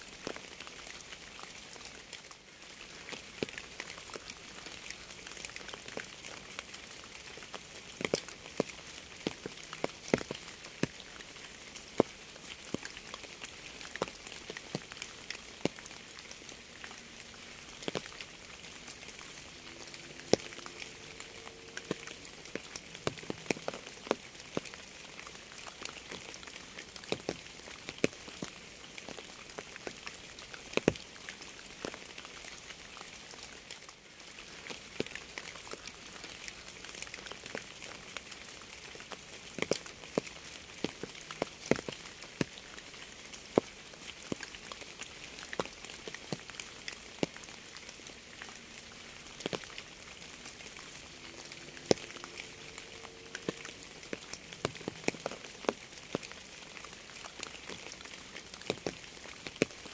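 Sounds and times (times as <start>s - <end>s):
raindrops striking a surface: 0.0s - 59.9s
steady rain hiss: 0.0s - 59.9s.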